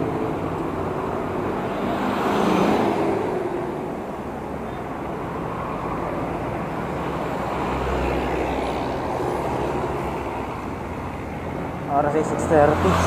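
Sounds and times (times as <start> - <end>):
cars passing close by: 0.0 - 13.0
wind and road noise: 0.0 - 13.0.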